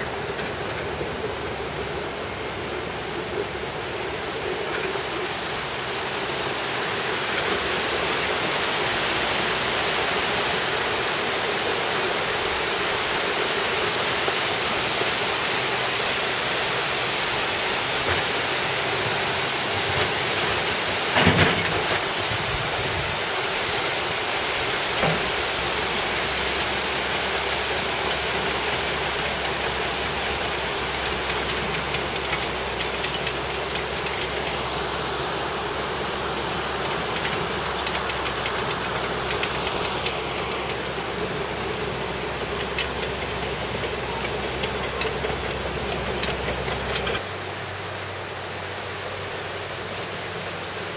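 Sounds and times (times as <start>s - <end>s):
mountain torrent rushing: 0.0s - 50.9s.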